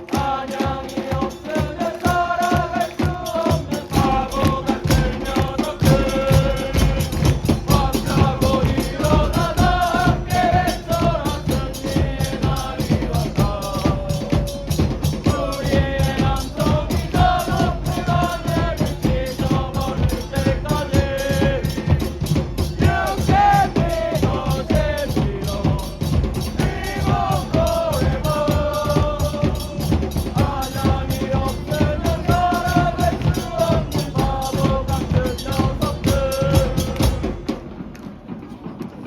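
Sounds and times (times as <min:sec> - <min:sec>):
music with fast drum beat: 0:00.0 - 0:39.0.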